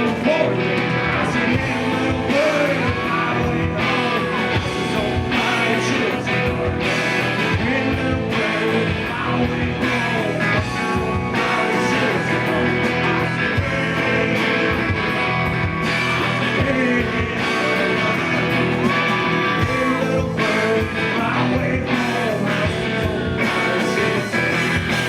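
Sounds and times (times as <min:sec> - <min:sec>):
bass: 0:00.0 - 0:25.0
drums: 0:00.0 - 0:25.0
electric guitars: 0:00.0 - 0:25.0
person singing: 0:00.0 - 0:25.0.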